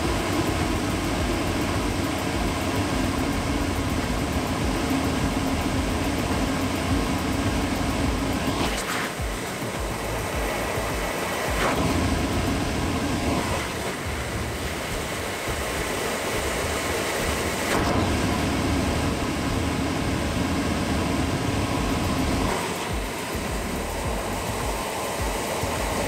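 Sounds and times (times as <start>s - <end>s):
dust collector fan rushing hum: 0.0s - 26.0s.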